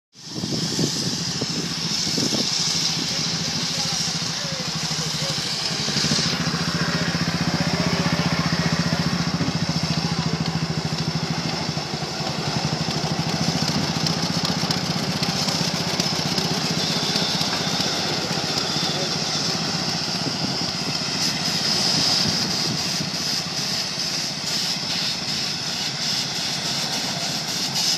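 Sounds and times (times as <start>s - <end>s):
high hiss of steam: 0.1s - 27.9s
steam shovel machinery running: 0.1s - 27.9s.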